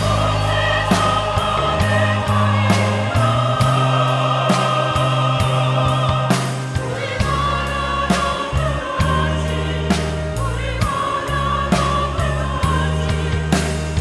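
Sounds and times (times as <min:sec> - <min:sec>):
choir singing in harmony: 0:00.0 - 0:14.0
instrumental accompaniment: 0:00.0 - 0:14.0
sustained low bass notes: 0:00.0 - 0:14.0.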